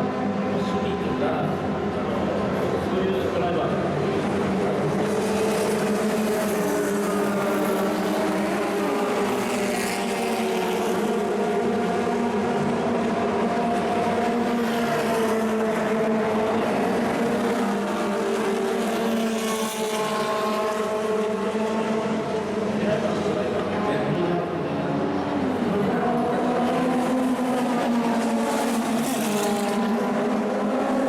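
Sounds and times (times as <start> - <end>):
racing car engines: 0.0 - 31.0.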